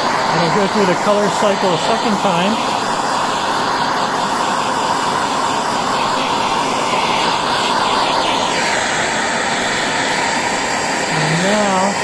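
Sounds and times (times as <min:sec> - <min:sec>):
hand torch flame hissing: 0:00.0 - 0:12.0.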